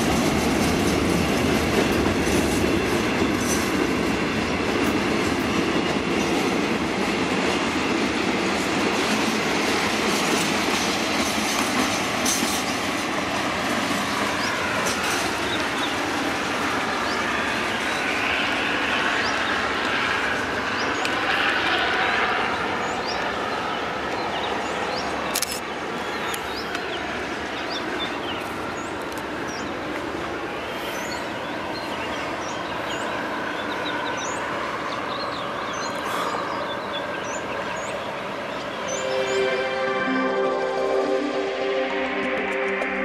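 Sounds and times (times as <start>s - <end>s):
freight train rumbling on rails: 0.0s - 43.0s.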